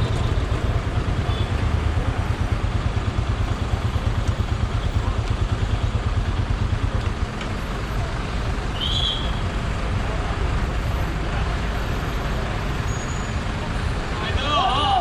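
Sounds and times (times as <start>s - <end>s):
motorcycle low rumble: 0.0s - 14.2s.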